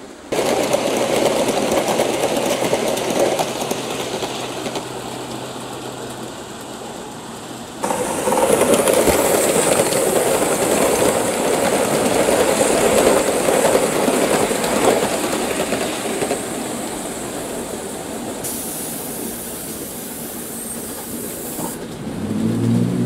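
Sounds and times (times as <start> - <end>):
model train wheels rumbling: 0.0 - 23.0.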